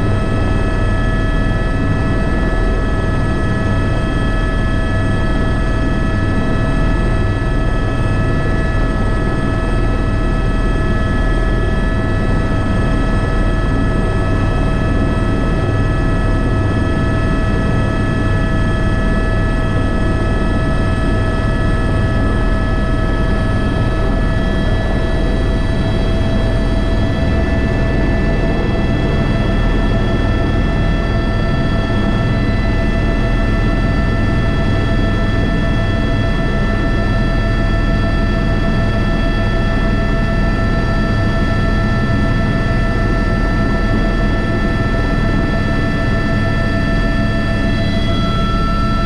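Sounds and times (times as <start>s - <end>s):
helicopter engine whine: 0.0s - 49.0s
helicopter rotor rumble: 0.0s - 49.0s.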